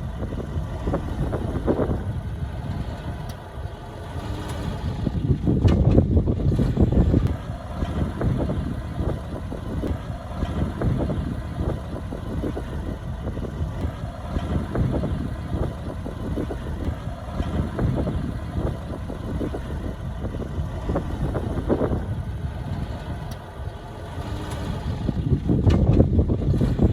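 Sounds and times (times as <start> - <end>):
heavy machinery diesel engine running: 0.0 - 26.9.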